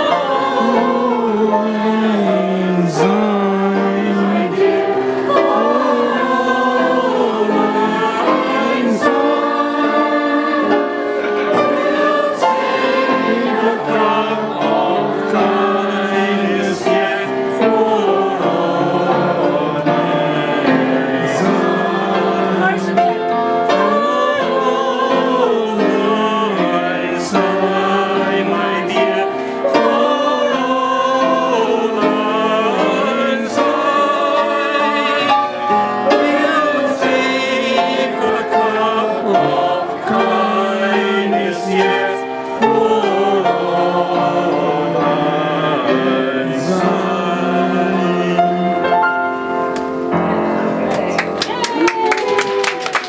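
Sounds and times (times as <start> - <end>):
group of people singing: 0.0 - 53.0
upright piano: 0.0 - 53.0.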